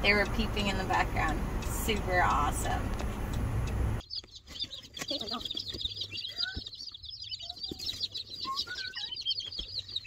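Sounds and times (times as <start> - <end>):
baby chicks peeping: 0.1 - 10.0.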